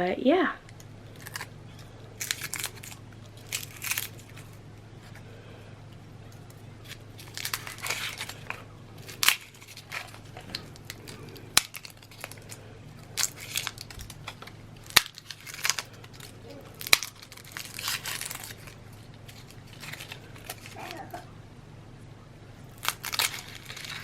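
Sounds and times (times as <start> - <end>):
garlic bulbs crinkling and crunching: 0.6 - 21.3, 22.6 - 24.0.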